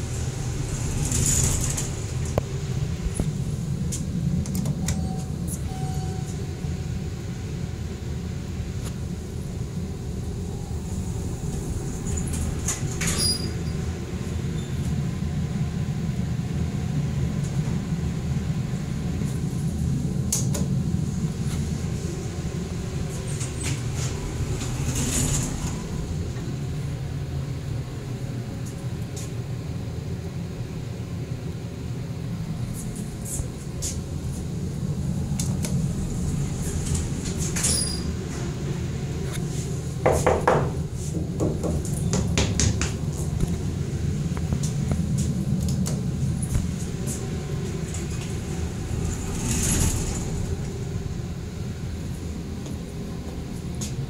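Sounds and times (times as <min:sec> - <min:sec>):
elevator low rumble: 0:00.0 - 0:54.0.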